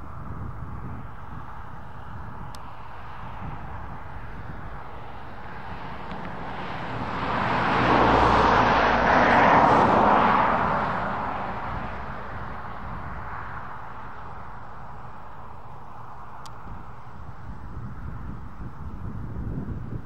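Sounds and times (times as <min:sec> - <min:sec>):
tractor engine hum: 0:00.0 - 0:19.8.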